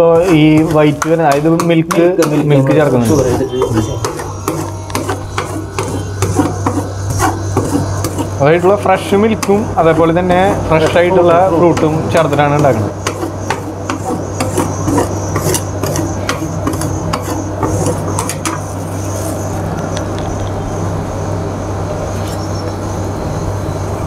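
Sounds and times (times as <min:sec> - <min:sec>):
metal spatulas scraping metal plate: 0:00.0 - 0:19.4
steady low hum: 0:00.0 - 0:24.0.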